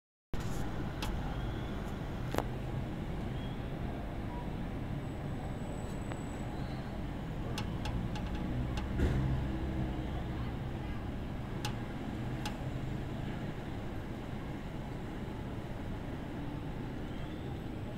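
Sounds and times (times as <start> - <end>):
distant traffic rumble: 0.4 - 17.9.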